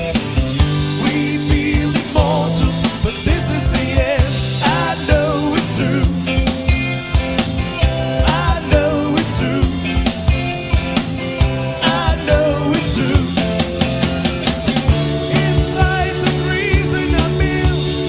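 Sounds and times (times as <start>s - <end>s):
bass guitar: 0.0s - 18.0s
drum kit beat: 0.0s - 18.0s
guitars: 0.0s - 18.0s.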